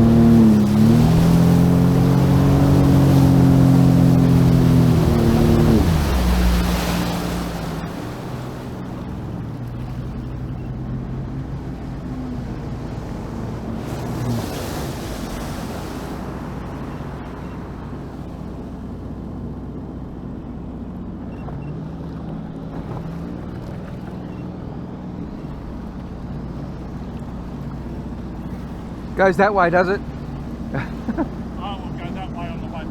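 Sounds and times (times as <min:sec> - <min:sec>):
jet ski engine: 0:00.0 - 0:32.9
water and wind noise: 0:00.0 - 0:32.9.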